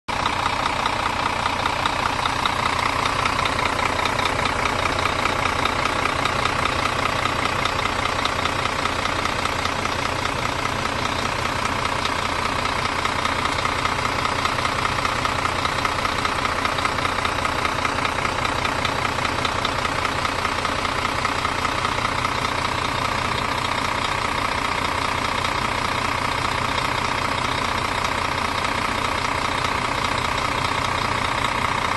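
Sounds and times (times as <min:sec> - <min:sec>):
diesel engine idling: 0:00.1 - 0:31.9.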